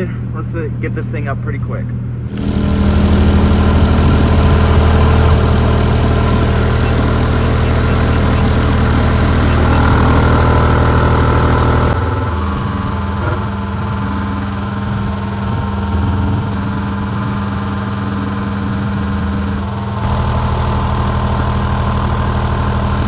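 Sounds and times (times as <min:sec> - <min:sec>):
subwoofer low test tone: 0:01.9 - 0:23.0.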